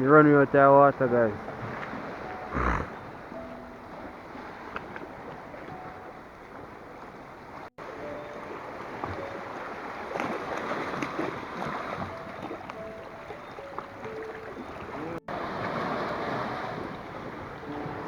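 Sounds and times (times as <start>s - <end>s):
small waves at the shore: 0.0s - 18.0s.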